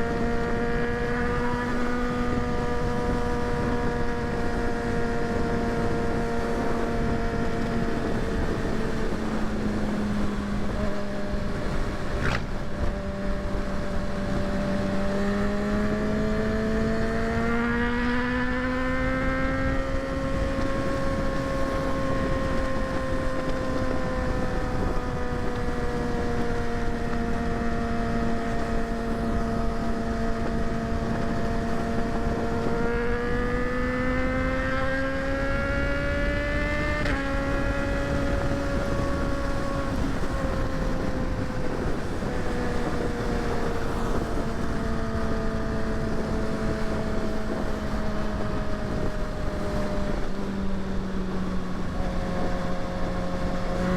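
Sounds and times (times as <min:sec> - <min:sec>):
motorcycle engine running: 0:00.0 - 0:53.9
wind noise on microphone: 0:00.0 - 0:53.9.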